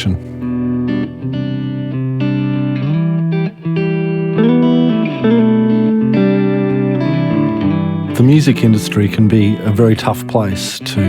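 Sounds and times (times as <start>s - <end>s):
guitar chords: 0.0s - 11.0s.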